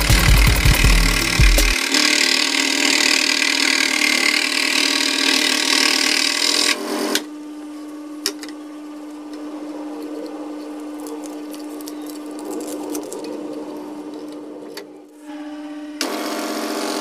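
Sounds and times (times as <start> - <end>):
saw running freely: 0.0 - 12.8, 15.2 - 17.0.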